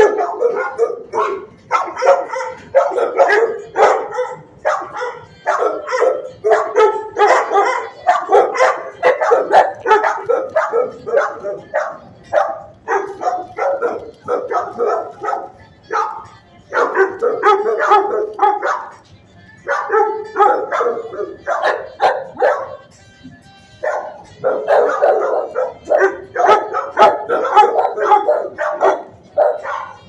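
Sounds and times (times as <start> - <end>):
dogs barking: 0.0 - 30.0.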